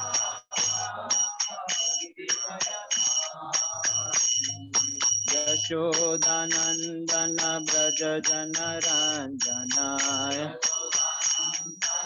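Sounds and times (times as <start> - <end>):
devotional chant singing: 0.0 - 12.0
hand cymbals clashing: 0.0 - 12.0.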